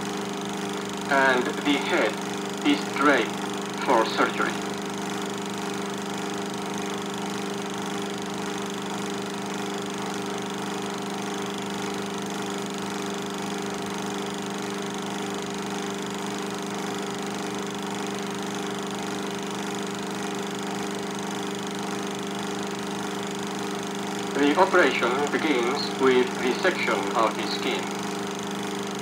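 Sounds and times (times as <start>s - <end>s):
film projector hum: 0.0s - 29.0s.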